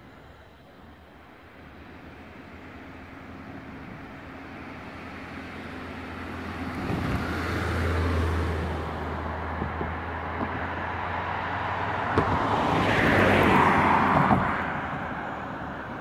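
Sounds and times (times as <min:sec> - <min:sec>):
vehicle passing: 0:02.1 - 0:16.0.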